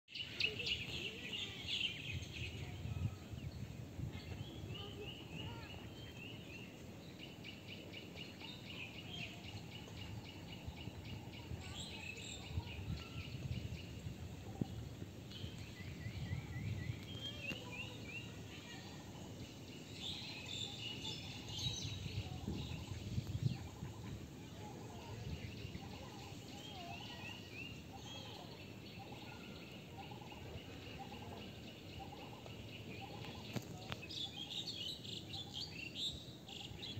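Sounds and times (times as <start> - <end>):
birds singing and calling: 0.1 - 36.9.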